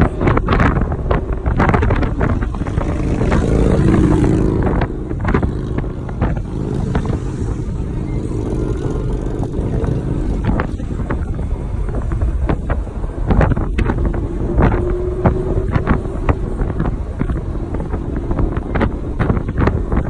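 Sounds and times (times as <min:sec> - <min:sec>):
car engine running: 0:00.0 - 0:20.0
wind buffeting microphone: 0:00.0 - 0:20.0.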